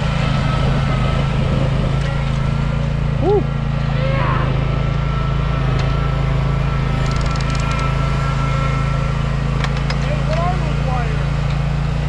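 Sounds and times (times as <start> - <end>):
engine running steadily: 0.0 - 12.0
thin steady whine: 0.0 - 12.0.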